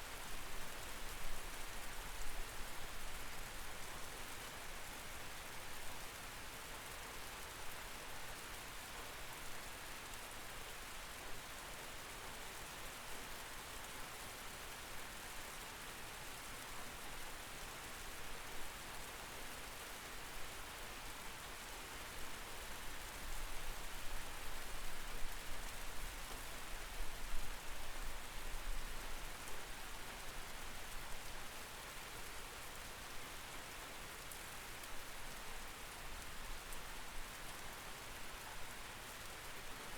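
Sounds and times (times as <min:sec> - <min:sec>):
steady rain through window: 0:00.0 - 0:39.9.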